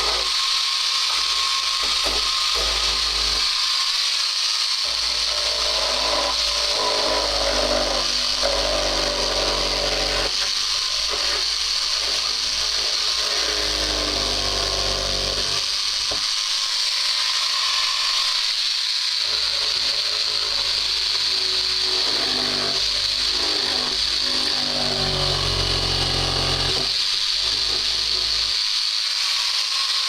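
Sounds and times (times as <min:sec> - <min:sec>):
power drill whining: 0:00.0 - 0:30.0.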